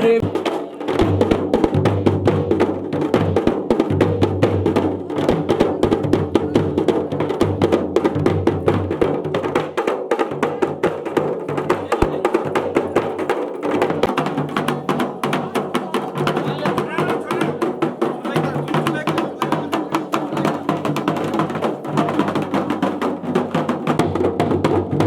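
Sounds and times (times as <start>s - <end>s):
drums played fast: 0.0s - 25.0s.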